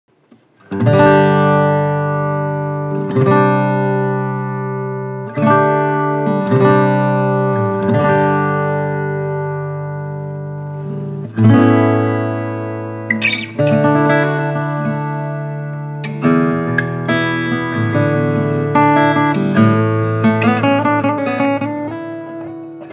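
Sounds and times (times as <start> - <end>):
acoustic guitar strummed chords: 0.2 - 22.9.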